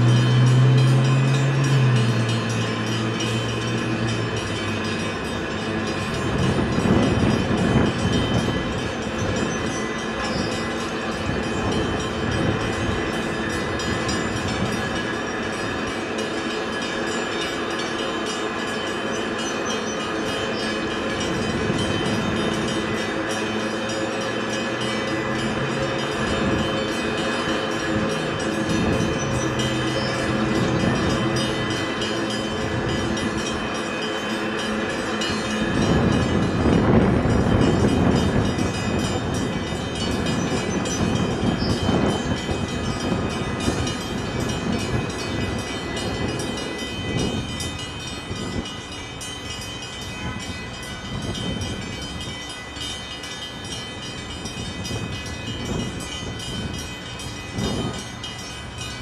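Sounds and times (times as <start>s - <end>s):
boat diesel engines droning: 0.0s - 59.0s.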